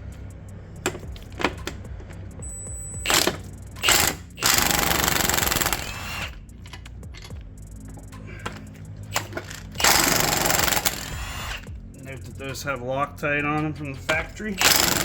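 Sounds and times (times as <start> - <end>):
impact wrench hammering: 0.8 - 11.9, 13.8 - 15.0.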